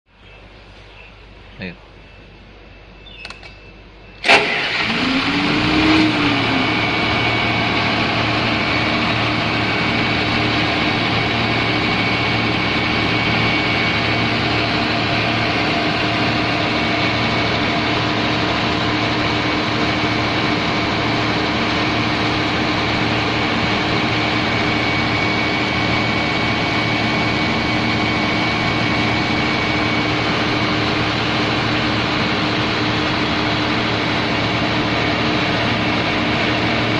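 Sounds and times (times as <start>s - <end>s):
diesel generator engine starting: 3.1s - 36.9s.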